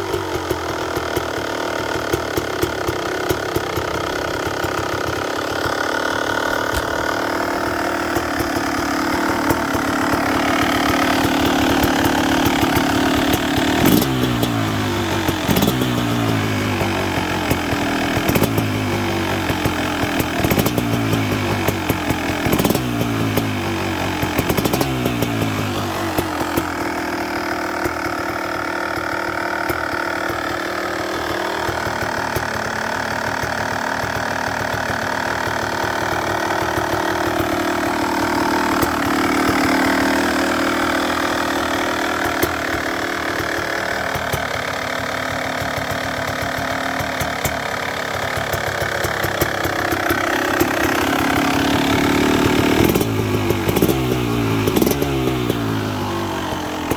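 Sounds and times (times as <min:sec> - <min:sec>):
two-stroke engine revving and idling: 0:00.0 - 0:56.9.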